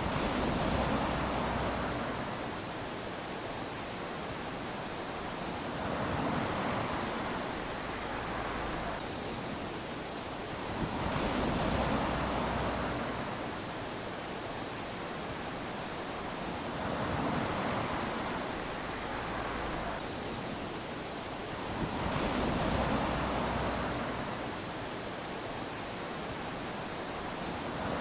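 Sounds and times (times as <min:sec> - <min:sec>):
small waves lapping on shore: 0:00.0 - 0:28.0
surf hiss: 0:00.0 - 0:28.0.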